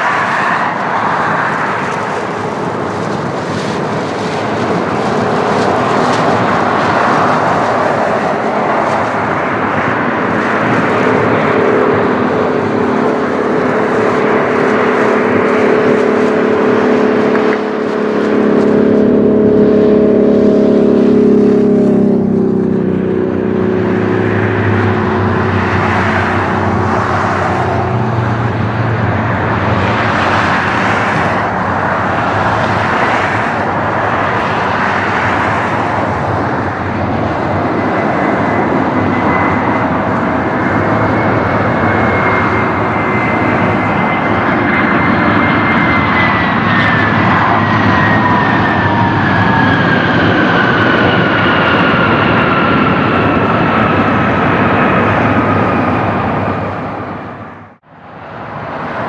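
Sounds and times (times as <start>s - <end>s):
jet airliner engines whining: 0.0s - 59.0s.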